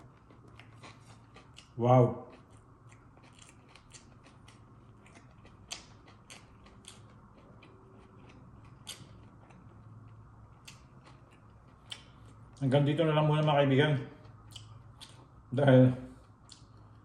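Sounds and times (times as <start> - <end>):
person chewing and eating: 0.0 - 12.8, 13.4 - 17.0.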